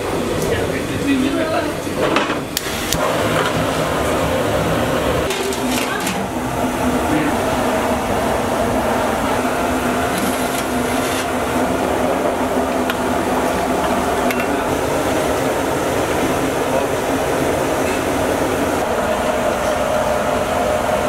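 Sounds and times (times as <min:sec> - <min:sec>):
gas burner roaring: 0:00.0 - 0:21.0.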